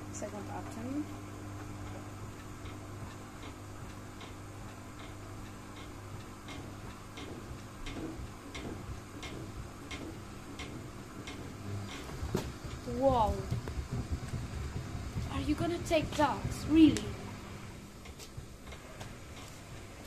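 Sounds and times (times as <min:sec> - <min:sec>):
washing machine motor humming: 0:00.0 - 0:20.0
light regular clicking: 0:01.6 - 0:15.3, 0:16.2 - 0:20.0.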